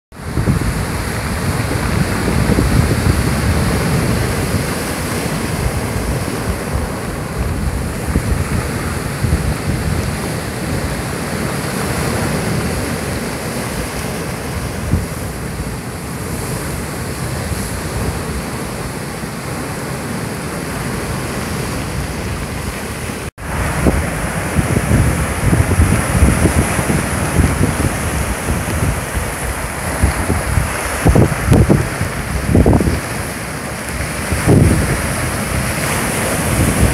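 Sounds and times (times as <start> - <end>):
wind buffeting microphone: 0.1 - 19.8, 20.5 - 36.9
waves breaking on rocky shore: 0.2 - 36.9.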